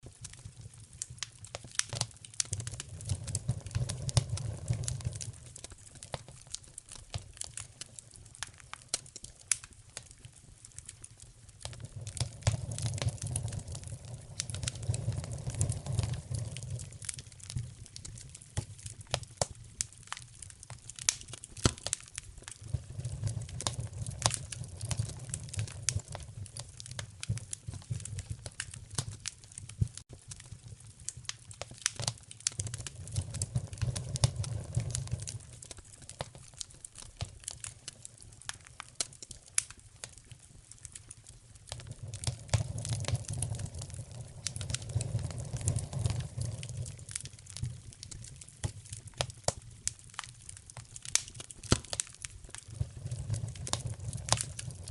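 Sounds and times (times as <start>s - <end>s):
logs crackling and popping: 0.0s - 54.9s
low roar of flame: 0.0s - 54.9s.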